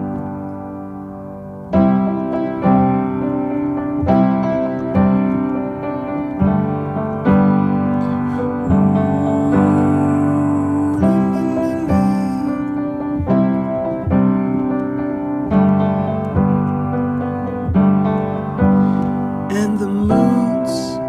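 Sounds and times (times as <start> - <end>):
piano playing slow chords: 0.0 - 21.0.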